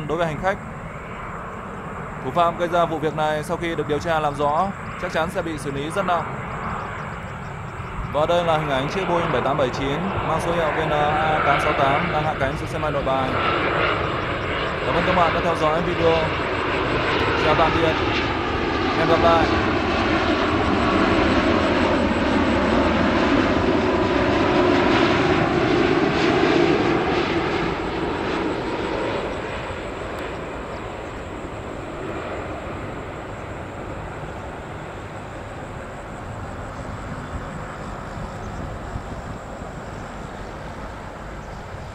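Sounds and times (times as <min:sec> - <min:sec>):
airliner jet engines passing overhead: 0:00.0 - 0:41.9.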